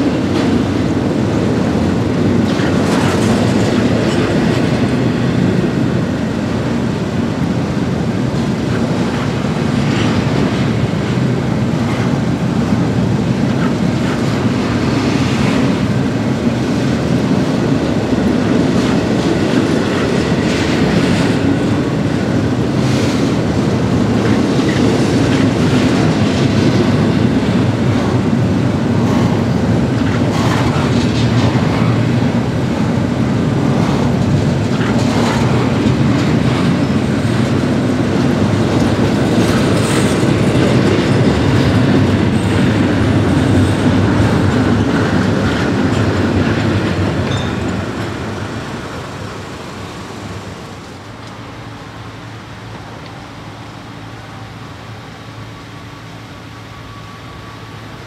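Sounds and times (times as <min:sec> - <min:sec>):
freight train rumbling past: 0:00.0 - 0:58.0
train wheels clacking on rails: 0:00.0 - 0:58.0.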